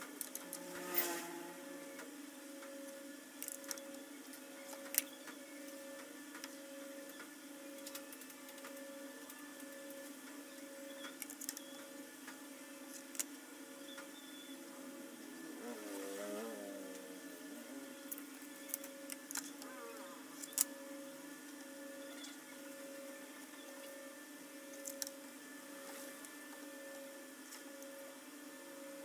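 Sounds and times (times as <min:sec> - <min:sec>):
mechanical hum with pulsing tone: 0:00.0 - 0:29.0.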